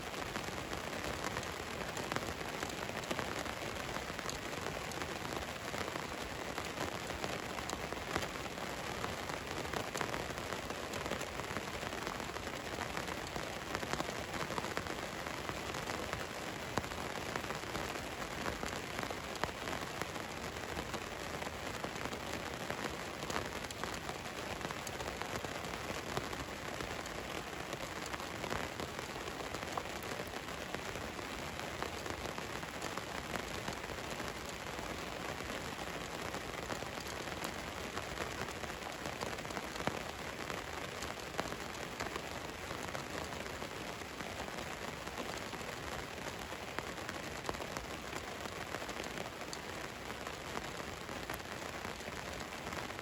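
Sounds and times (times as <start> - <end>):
rain drumming on vehicle roof: 0.1 - 53.0.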